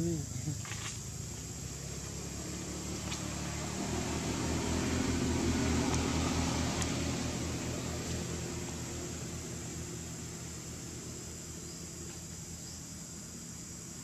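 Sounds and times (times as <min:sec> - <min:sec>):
distant vehicle engine hum: 0:00.0 - 0:14.0
high-pitched insect drone: 0:00.0 - 0:14.0.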